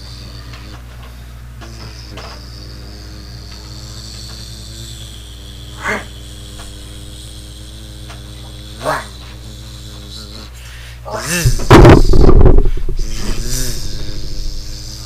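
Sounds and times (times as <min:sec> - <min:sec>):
person snoring: 0:00.0 - 0:15.0
steady low hum: 0:00.0 - 0:15.0.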